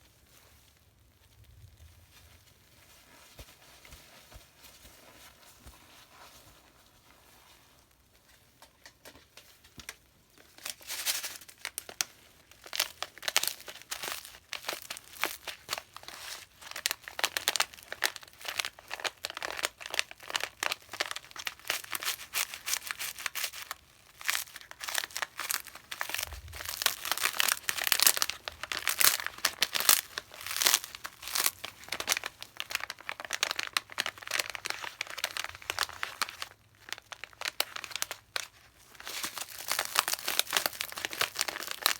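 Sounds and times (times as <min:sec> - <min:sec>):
cleaner crackling and popping: 0:07.8 - 0:41.9.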